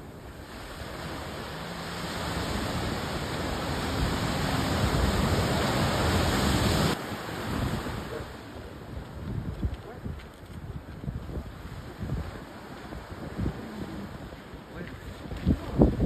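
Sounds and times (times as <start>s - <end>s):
surf washing on rocky shore: 0.0s - 16.0s.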